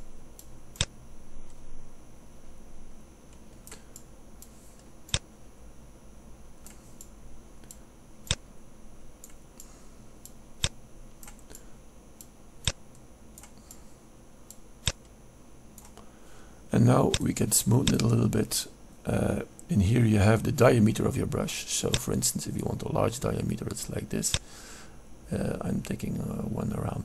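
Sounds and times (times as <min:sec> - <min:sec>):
faint high whine: 0:00.0 - 0:27.0.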